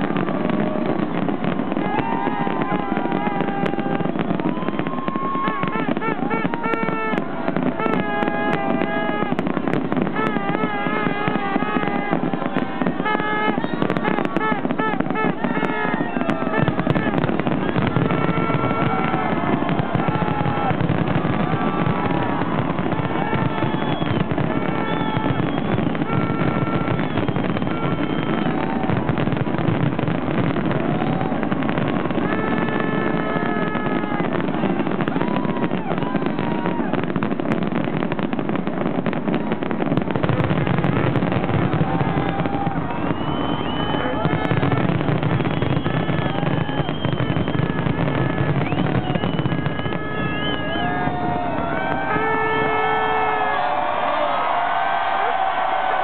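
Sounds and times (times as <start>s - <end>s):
crowd noise: 0.0s - 56.0s
fireworks banging: 0.0s - 56.0s.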